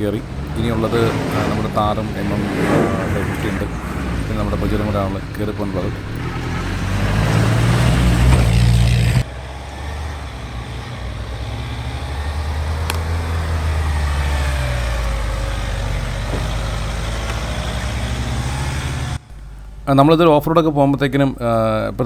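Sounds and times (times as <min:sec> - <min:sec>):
off-road vehicle engines under load: 0:00.0 - 0:22.0.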